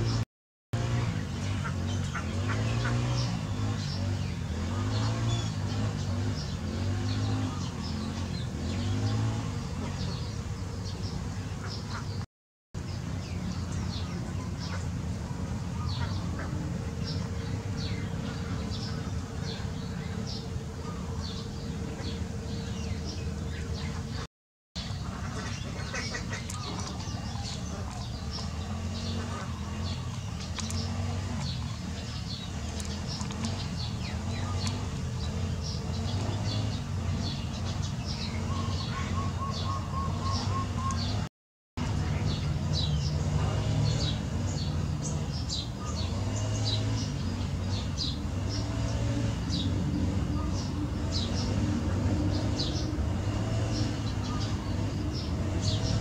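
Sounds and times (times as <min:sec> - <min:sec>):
low motor hum: 0:00.8 - 0:12.2, 0:12.8 - 0:56.0
sparrows chirping: 0:00.8 - 0:12.2, 0:12.8 - 0:56.0.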